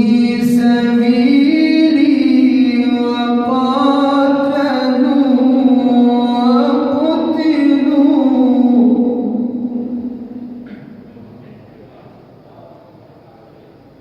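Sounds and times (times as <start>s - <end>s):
man chanting recitation: 0.0s - 13.7s.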